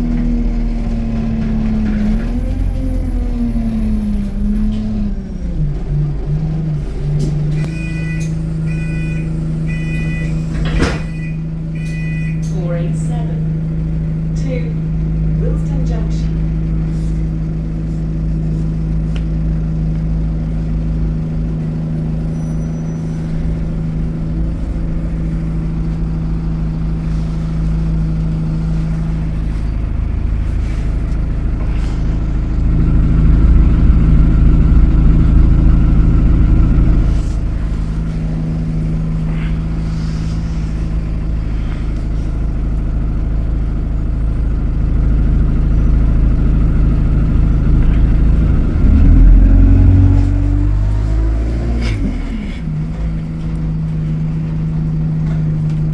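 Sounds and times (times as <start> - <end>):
bus engine running: 0.0 - 55.9.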